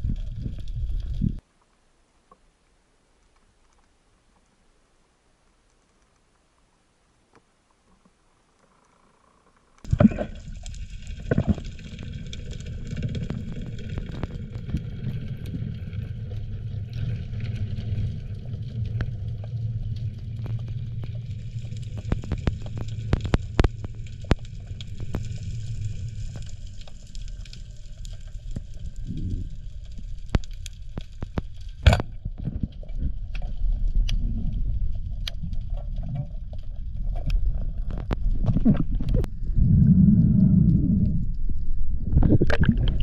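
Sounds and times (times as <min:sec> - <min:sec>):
underwater water rumble: 0:00.0 - 0:01.4, 0:08.7 - 0:43.0
clicks and crackles: 0:00.0 - 0:04.7, 0:05.4 - 0:39.5, 0:40.1 - 0:43.0.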